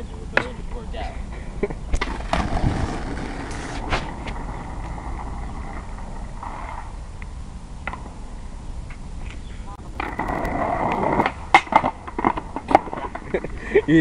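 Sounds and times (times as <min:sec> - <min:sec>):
skateboard wheels rolling on asphalt: 0:02.0 - 0:14.0.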